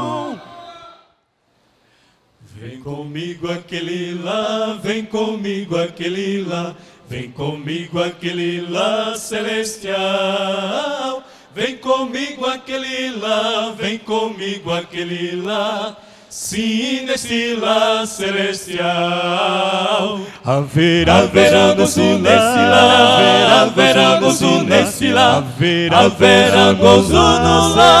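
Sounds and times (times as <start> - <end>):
male quartet singing a hymn: 2.5 - 28.0.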